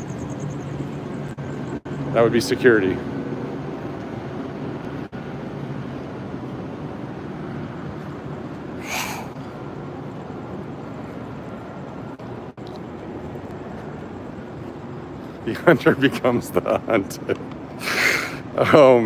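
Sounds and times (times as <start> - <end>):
vehicle engine rumbling: 0.0 - 17.8.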